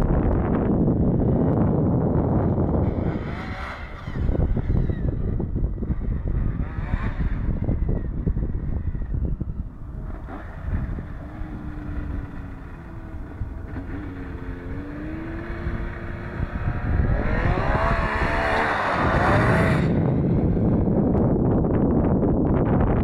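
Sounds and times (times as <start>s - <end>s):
wind rumbling on microphone: 0.0s - 23.0s
snowmobile engine passing: 0.5s - 21.1s.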